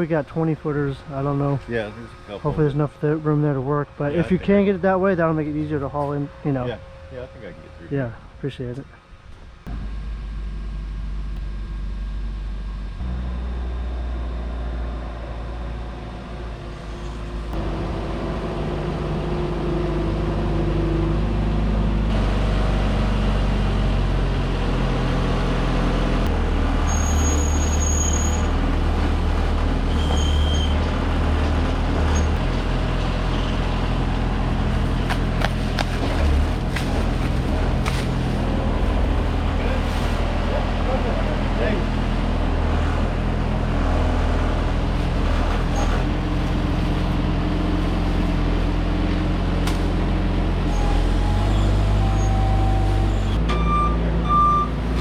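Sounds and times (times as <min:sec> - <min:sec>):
truck engine running: 0:09.4 - 0:55.0.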